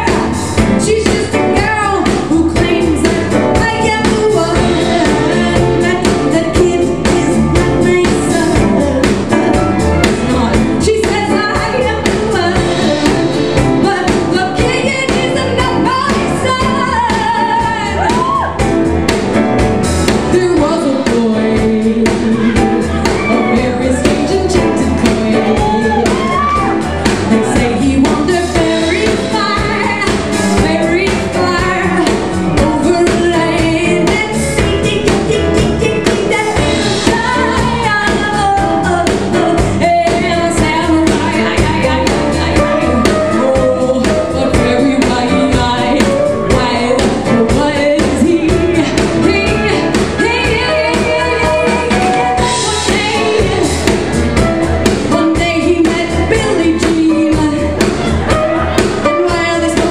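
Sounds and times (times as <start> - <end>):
woman singing: 0.0 - 18.7, 20.1 - 59.9
live band playing: 0.0 - 59.9.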